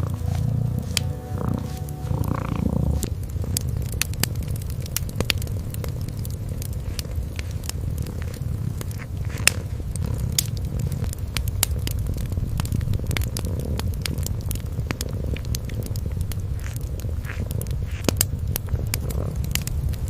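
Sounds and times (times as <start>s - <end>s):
kitten purring: 0.0s - 20.0s
wood fire crackling: 0.0s - 20.0s.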